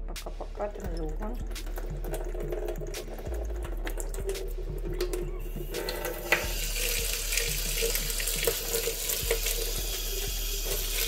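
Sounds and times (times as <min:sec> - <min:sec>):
tap water running into sink: 0:00.3 - 0:11.0.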